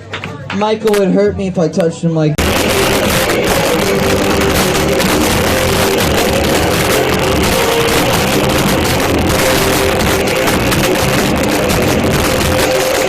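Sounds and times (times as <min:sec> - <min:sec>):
live rock band playing: 0:02.4 - 0:13.0.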